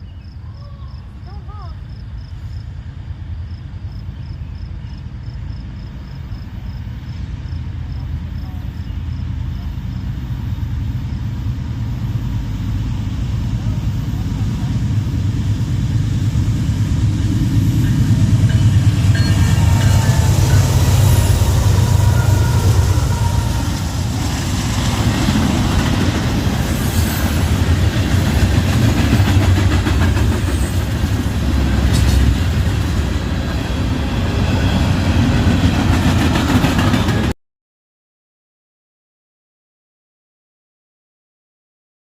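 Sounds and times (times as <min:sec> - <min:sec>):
train rumbling past: 0:00.0 - 0:37.4.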